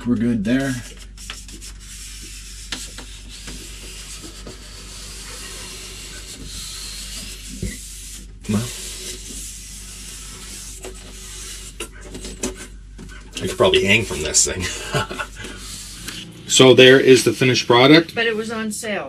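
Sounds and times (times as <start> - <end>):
hands rubbing plastic track: 0.7 - 16.4.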